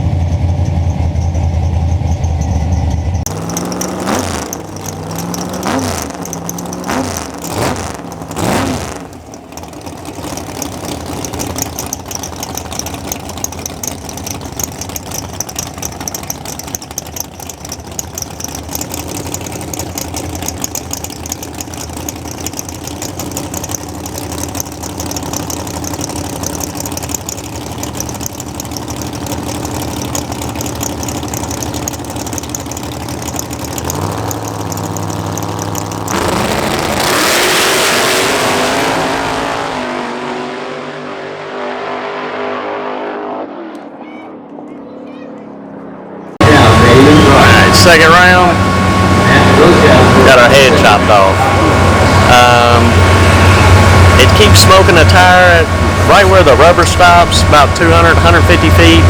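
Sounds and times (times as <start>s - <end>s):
car engine revving: 3.3s - 43.5s, 46.3s - 59.0s.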